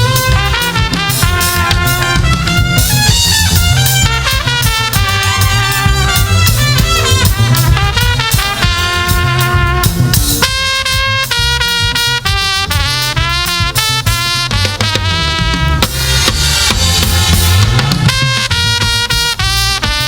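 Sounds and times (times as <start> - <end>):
bass: 0.0 - 20.0
drum kit: 0.0 - 20.0
gospel band playing: 0.0 - 20.0.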